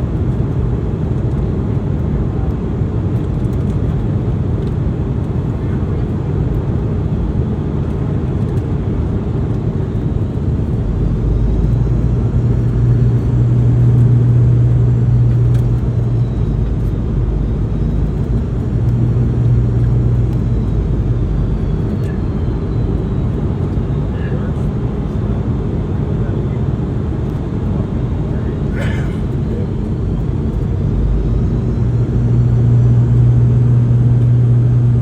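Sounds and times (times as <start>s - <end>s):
aircraft cabin rumble: 0.0s - 35.0s
faint high engine whine: 0.0s - 35.0s
low hum: 6.6s - 35.0s.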